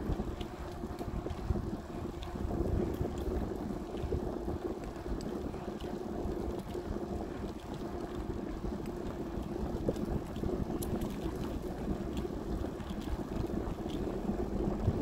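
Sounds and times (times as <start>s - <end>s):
faint hum: 0.0s - 15.0s
faint ticks: 0.0s - 15.0s
wind buffeting microphone: 0.0s - 15.0s.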